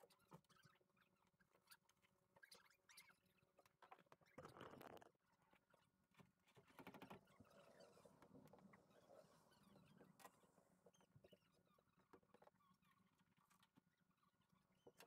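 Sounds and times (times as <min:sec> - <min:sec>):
faint clicks and scrapes: 0:00.0 - 0:15.0.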